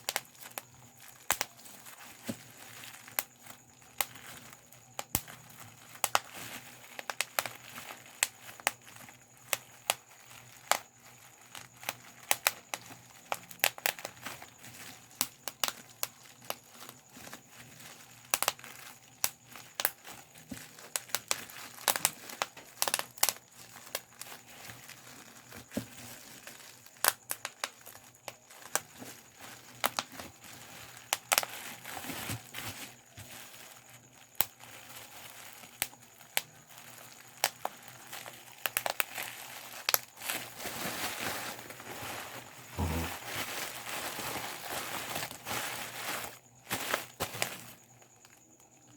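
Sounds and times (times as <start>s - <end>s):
bubble wrap popping: 0.0s - 48.4s
plastic sheet crinkling: 0.0s - 48.4s.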